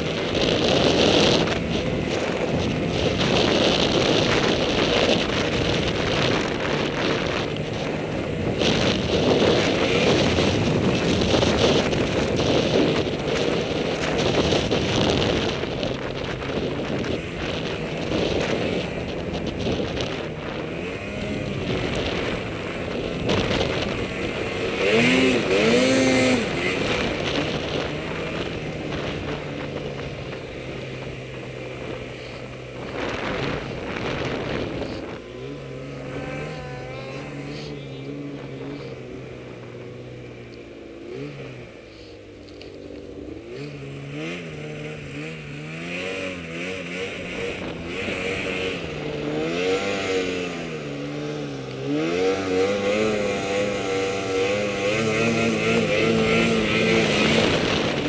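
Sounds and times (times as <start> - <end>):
snowmobile engine revving: 0.0 - 42.6, 43.2 - 58.0.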